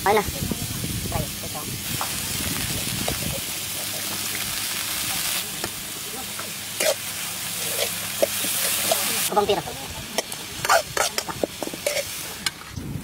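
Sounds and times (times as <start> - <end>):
curry sizzling in a wok: 0.0 - 12.6.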